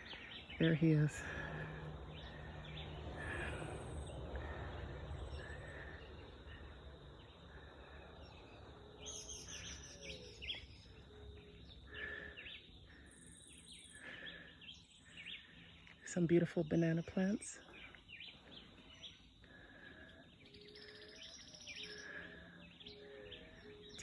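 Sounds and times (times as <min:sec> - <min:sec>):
wild birds calling and chirping: 0:00.0 - 0:24.0.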